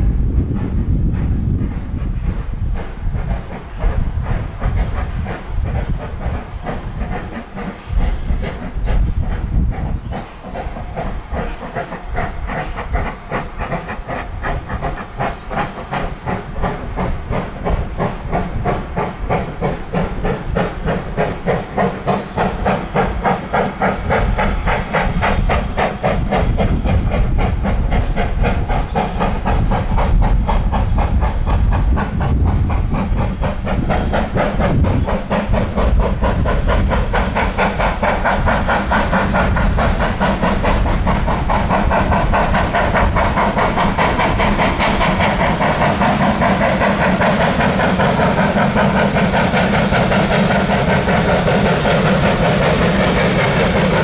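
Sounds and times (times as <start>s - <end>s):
steam hissing: 0.0s - 54.0s
steam locomotives chuffing: 0.0s - 54.0s.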